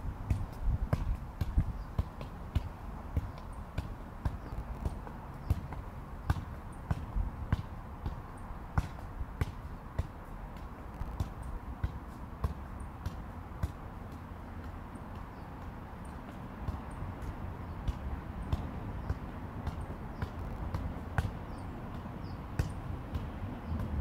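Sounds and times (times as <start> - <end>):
ball thudding on asphalt: 0.2 - 24.0.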